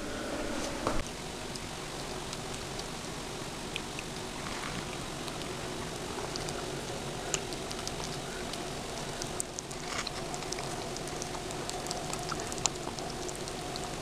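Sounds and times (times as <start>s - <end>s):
faint hum: 0.0s - 14.0s
steady hiss: 0.0s - 14.0s
cat chewing and lapping: 1.0s - 14.0s.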